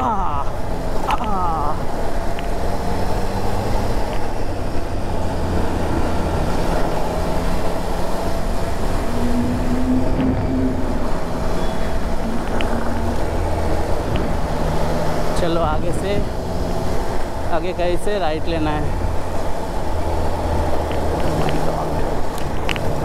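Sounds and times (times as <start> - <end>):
motorcycle engine cruising: 0.0 - 23.0
road and wind noise: 0.0 - 23.0.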